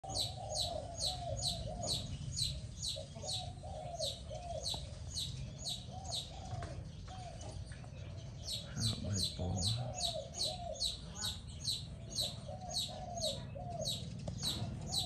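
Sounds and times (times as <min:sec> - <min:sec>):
dove cooing: 0:00.0 - 0:07.7, 0:08.4 - 0:15.0
bird chirping: 0:00.0 - 0:15.0.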